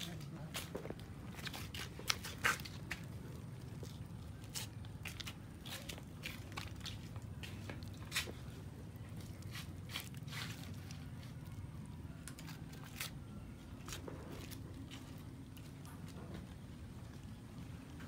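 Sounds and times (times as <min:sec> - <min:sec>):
kittens chewing and crunching bones: 0:00.0 - 0:18.0.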